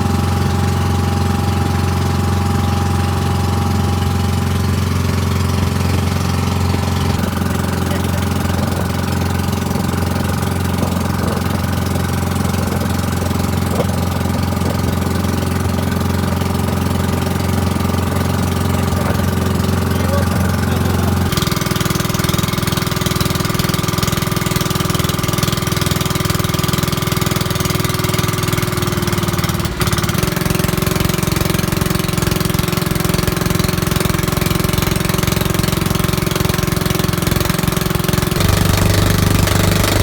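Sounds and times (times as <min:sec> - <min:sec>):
boat engine running steadily: 0:00.0 - 0:40.0.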